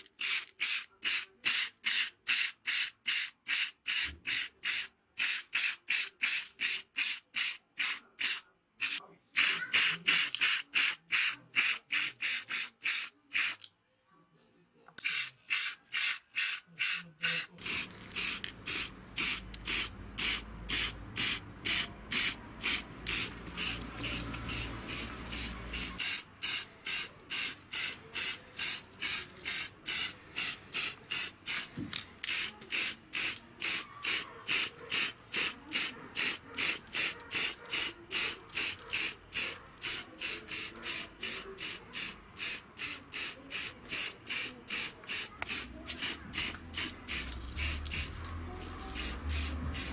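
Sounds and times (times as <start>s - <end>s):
paint spraying in hissing bursts: 0.0s - 13.6s, 15.0s - 31.7s, 32.3s - 48.2s, 48.8s - 49.9s.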